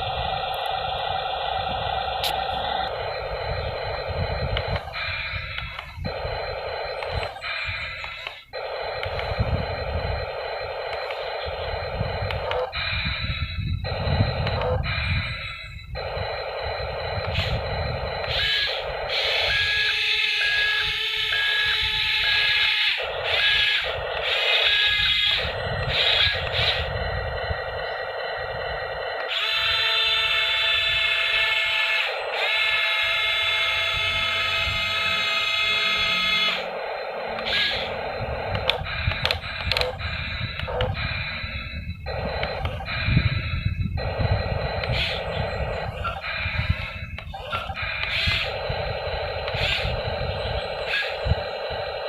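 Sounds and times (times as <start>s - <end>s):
toy excavator electric whine: 0.0s - 52.0s.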